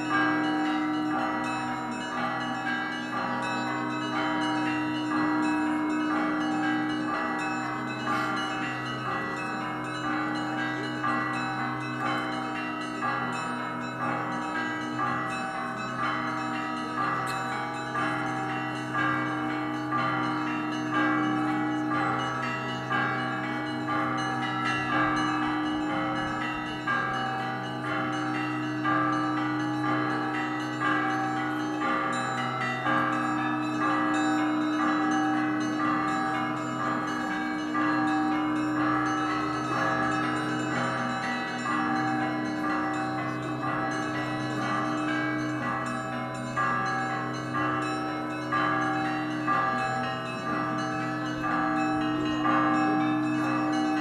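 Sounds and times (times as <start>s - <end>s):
deep large bells humming: 0.0s - 54.0s
small bells pealing: 0.0s - 54.0s.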